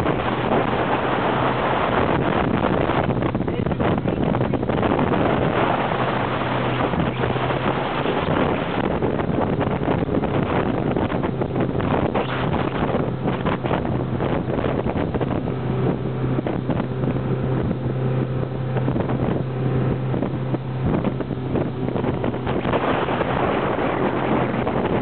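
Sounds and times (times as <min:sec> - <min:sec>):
motorboat engine running: 0:00.0 - 0:25.0
wind buffeting microphone: 0:00.0 - 0:25.0.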